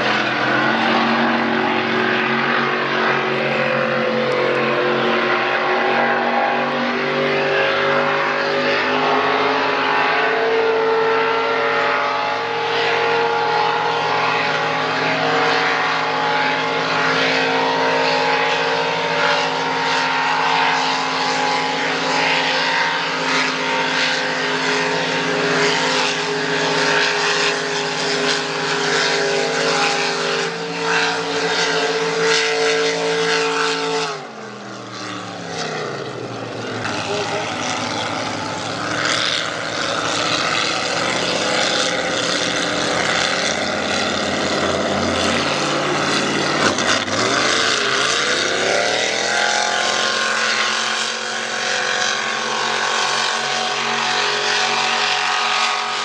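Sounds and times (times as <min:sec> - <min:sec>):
powerboat engines droning: 0:00.0 - 0:56.0.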